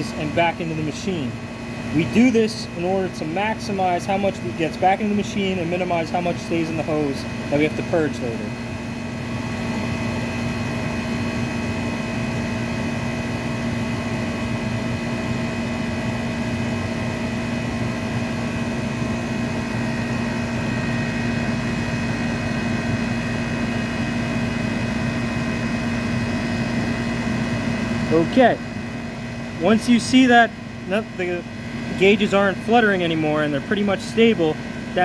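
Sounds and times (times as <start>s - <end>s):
air conditioner compressor hum: 0.0s - 35.0s.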